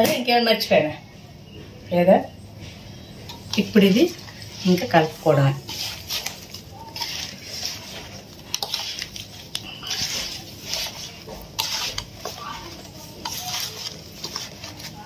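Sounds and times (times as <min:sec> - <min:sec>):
moist rustling and squishing: 0:02.6 - 0:15.0.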